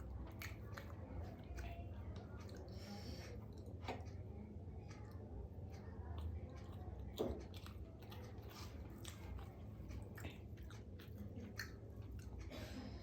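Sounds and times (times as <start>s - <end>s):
person chewing crisp food: 0.0s - 13.0s.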